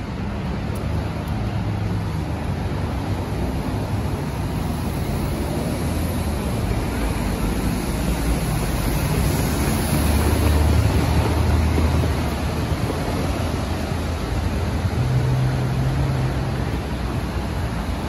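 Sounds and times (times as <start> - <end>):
passing cars: 0.0 - 18.0.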